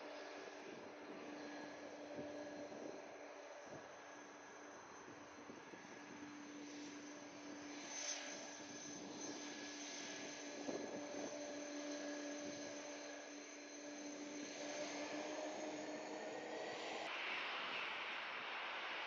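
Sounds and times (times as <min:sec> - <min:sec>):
jet engines whining: 0:00.0 - 0:17.2.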